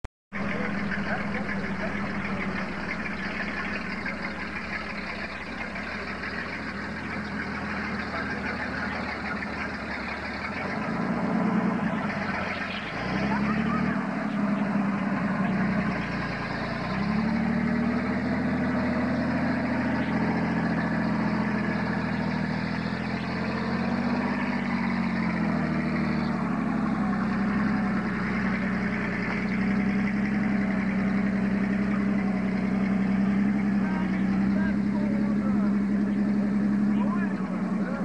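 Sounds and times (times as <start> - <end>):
pickup truck engine running: 0.3 - 38.0.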